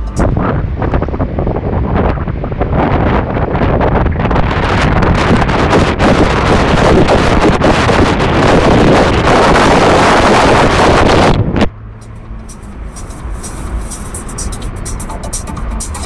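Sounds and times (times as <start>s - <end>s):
wind buffeting microphone: 0.0s - 15.1s
car road and engine noise: 0.0s - 16.0s.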